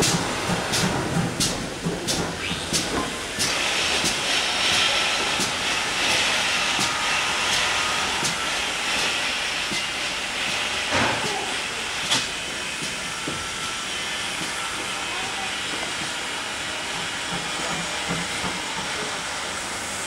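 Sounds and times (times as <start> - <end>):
steam engine hissing: 0.0 - 20.0.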